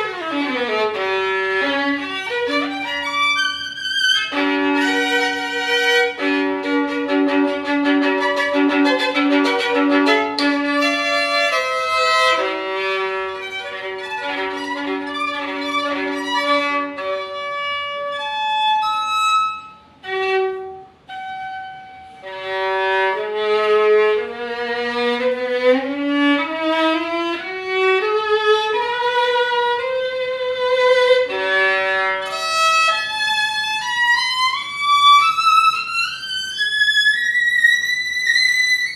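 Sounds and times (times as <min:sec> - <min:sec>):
solo violin bowed: 0:00.0 - 0:38.9.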